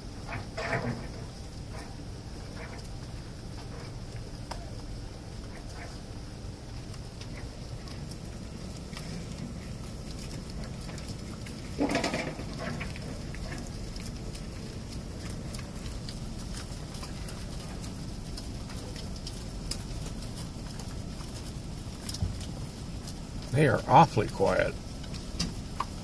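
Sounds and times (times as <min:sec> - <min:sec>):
car road rumble: 0:00.0 - 0:26.0.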